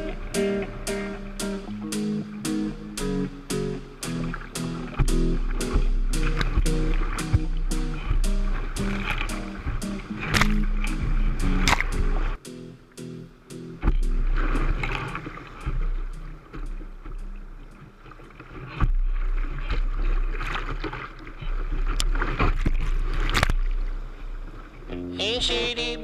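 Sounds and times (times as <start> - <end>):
whitewater rushing: 0.0 - 12.4, 13.8 - 26.0
water splashing on boat: 0.0 - 26.0.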